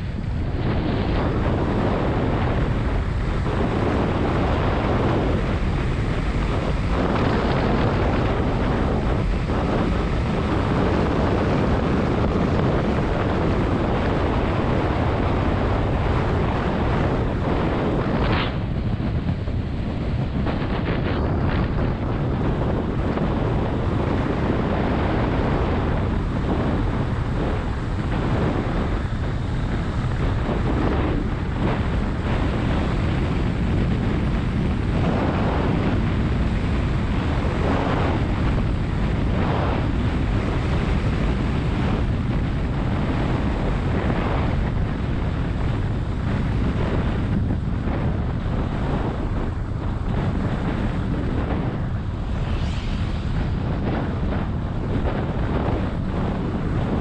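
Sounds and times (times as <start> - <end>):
road noise: 0.0 - 57.0
wind rushing over microphone: 0.0 - 57.0.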